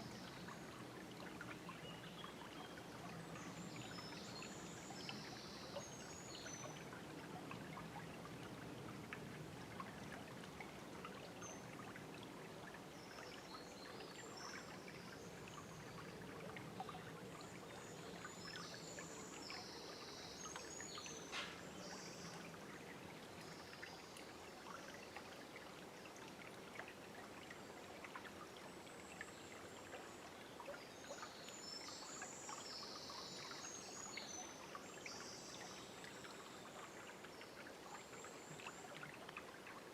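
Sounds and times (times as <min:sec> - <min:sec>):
river flowing and babbling: 0:00.0 - 0:39.9.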